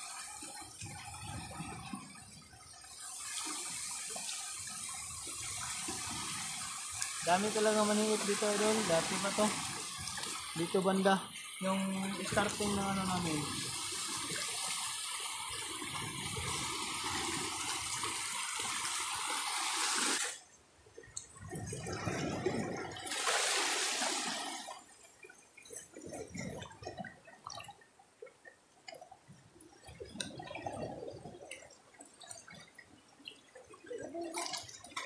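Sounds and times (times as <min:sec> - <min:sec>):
water drips and small splashes: 0:00.0 - 0:35.0.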